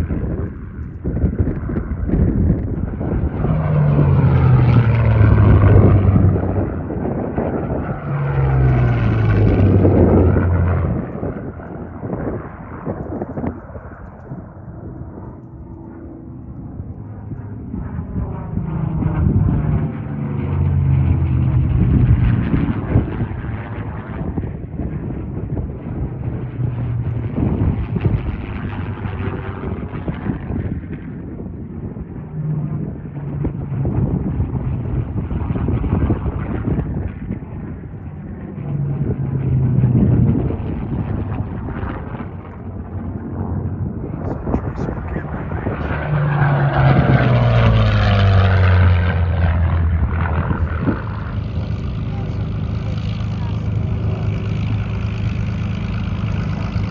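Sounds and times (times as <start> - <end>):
piston aircraft engine droning: 0.0 - 56.9
propeller plane flying by: 0.0 - 56.9
wind buffeting microphone: 0.0 - 56.9.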